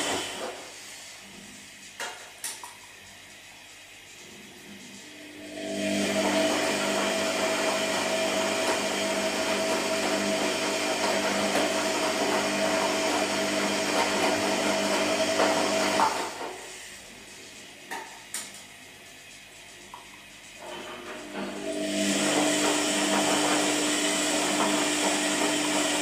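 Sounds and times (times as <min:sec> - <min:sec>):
washing machine motor whine: 0:00.0 - 0:02.0, 0:02.9 - 0:26.0.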